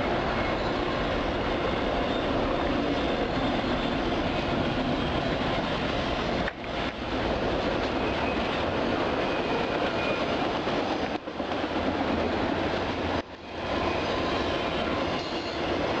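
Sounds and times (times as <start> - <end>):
freight train cars rolling on rails: 0.0 - 16.0.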